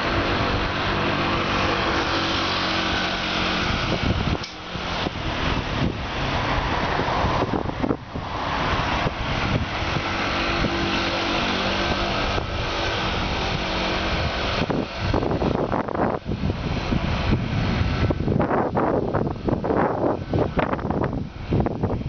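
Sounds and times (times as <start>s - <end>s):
vehicle engine running: 0.0s - 22.0s
wind rushing over microphone: 0.0s - 22.0s.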